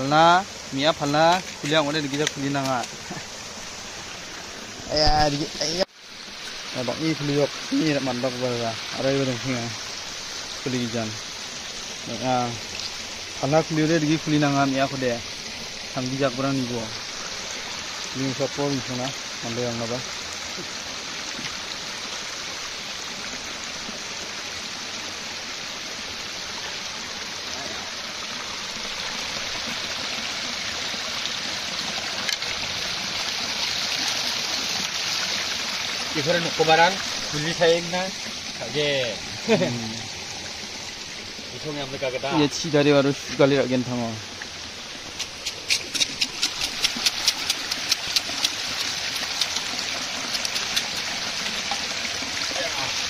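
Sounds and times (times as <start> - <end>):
running water: 0.0 - 53.0
stream trickling over rocks: 0.0 - 53.0.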